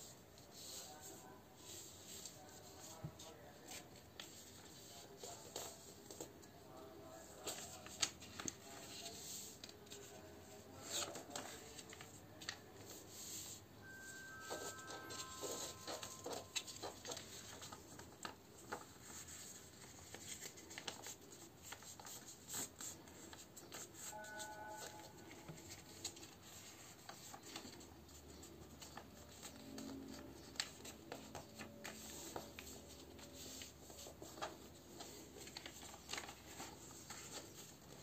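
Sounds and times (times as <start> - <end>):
paper being folded: 0.3 - 38.0.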